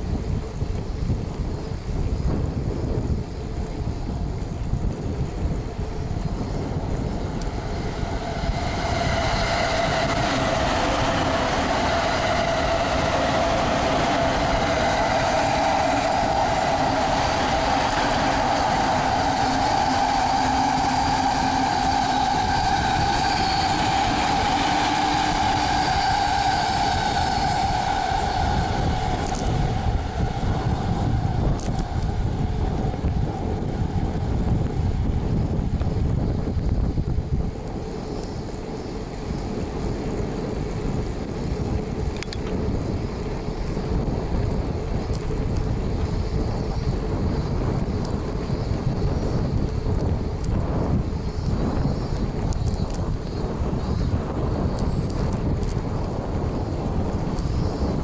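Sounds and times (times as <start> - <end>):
train whine rising in pitch: 0.0 - 58.0
wind rumble on microphone: 0.0 - 58.0.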